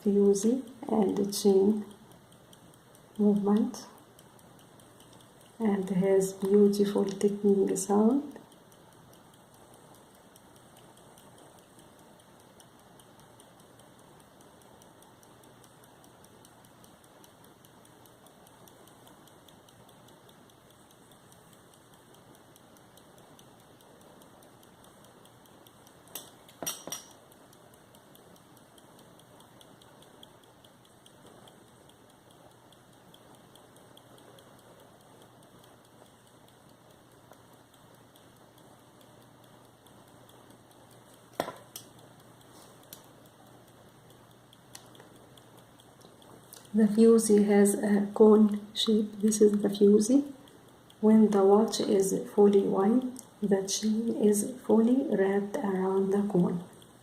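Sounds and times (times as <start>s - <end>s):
pocket watch ticking: 0.0s - 57.0s
sharp clicks: 0.0s - 57.0s.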